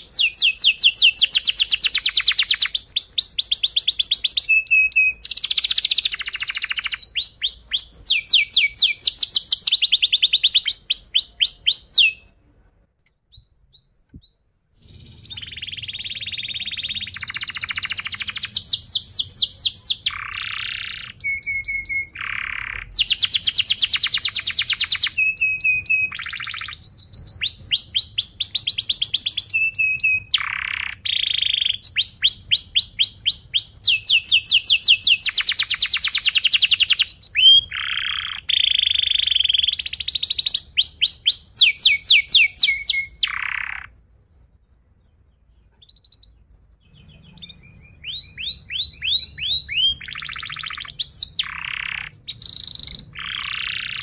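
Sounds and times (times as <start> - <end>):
canary singing: 0.0 - 12.4, 13.0 - 54.0.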